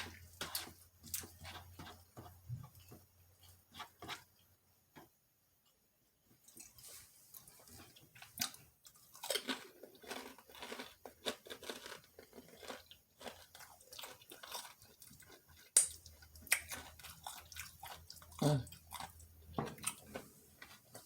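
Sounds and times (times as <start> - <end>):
person chewing crispy food: 0.0 - 4.3, 6.4 - 21.0.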